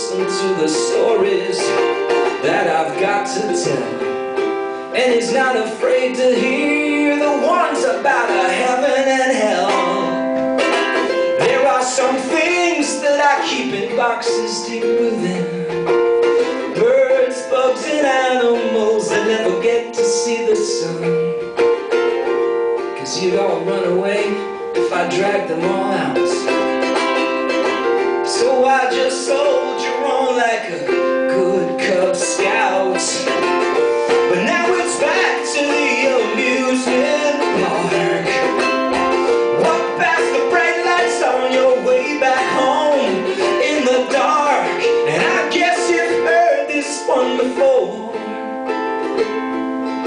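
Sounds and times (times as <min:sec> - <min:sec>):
ukulele strumming: 0:00.0 - 0:50.0.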